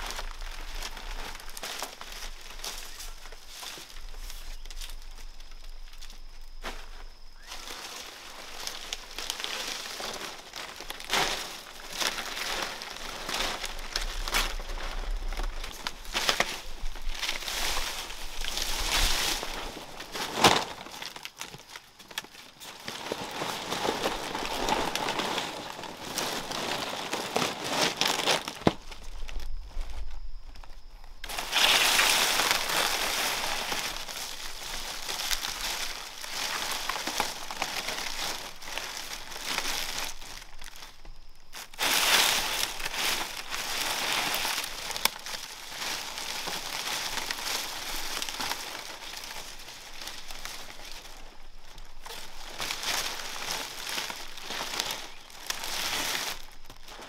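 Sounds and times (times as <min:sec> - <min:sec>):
dry plant material rustling: 0:00.0 - 0:57.0.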